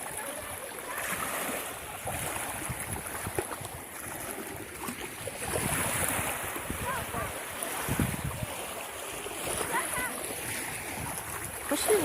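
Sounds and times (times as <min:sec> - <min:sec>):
sea waves on a beach: 0:00.0 - 0:12.0
wind buffeting microphone: 0:01.9 - 0:12.0.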